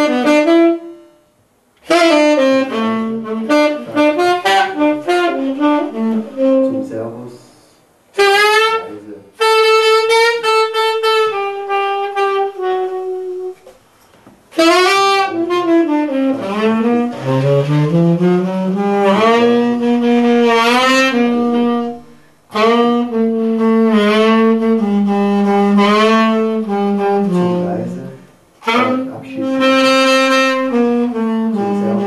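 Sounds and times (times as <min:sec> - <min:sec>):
tenor saxophone solo: 0:00.0 - 0:07.4, 0:08.1 - 0:13.8, 0:14.5 - 0:32.0.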